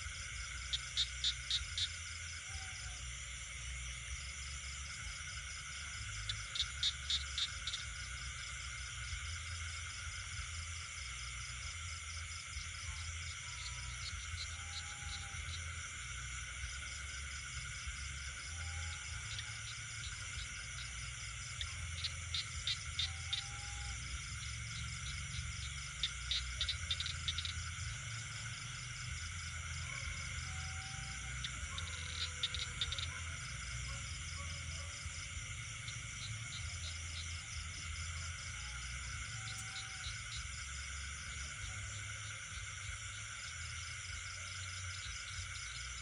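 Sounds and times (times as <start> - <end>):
frogs and insects trilling: 0.0 - 46.0.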